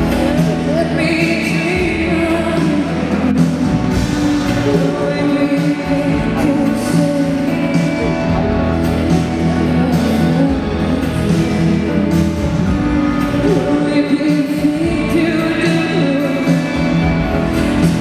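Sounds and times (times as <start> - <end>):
live band with woman singing: 0.0 - 18.0.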